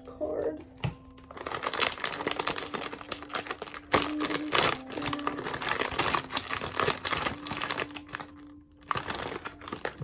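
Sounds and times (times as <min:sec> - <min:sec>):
plastic packaging crinkling: 0:01.0 - 0:10.0.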